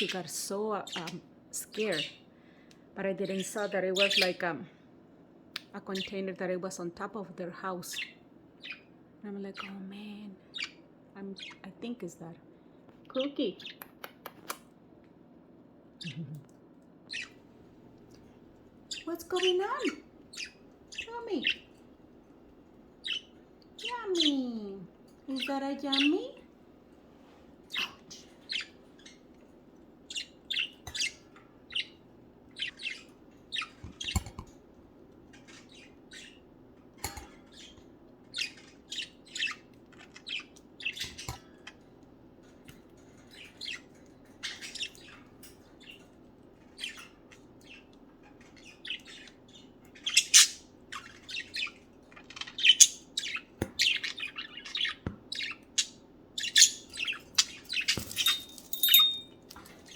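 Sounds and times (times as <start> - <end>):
budgerigars chirping and chattering: 0.0 - 2.2, 3.1 - 4.5, 5.6 - 6.3, 7.8 - 11.9, 17.1 - 26.5, 27.6 - 59.9.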